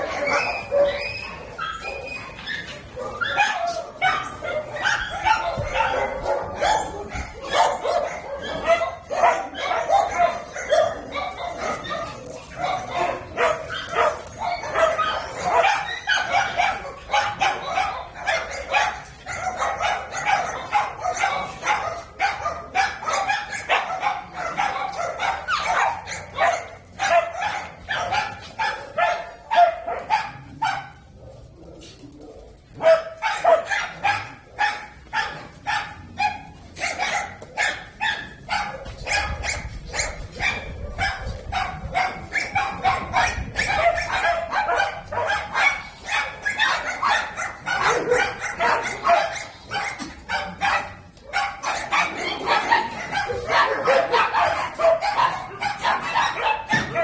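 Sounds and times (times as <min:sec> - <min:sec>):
many dogs barking: 0:00.0 - 0:57.0.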